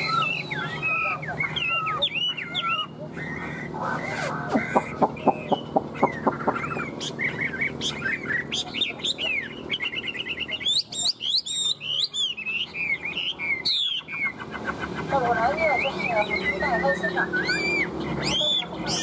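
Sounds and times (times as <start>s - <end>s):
bird singing: 0.0s - 19.0s.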